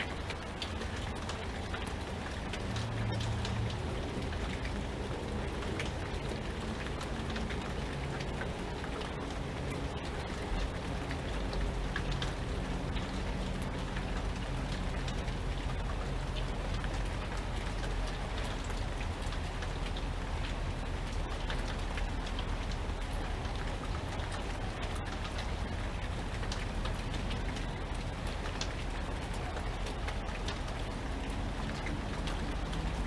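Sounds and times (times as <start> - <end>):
rain drops ticking: 0.0 - 33.0
rain hiss: 0.0 - 33.0.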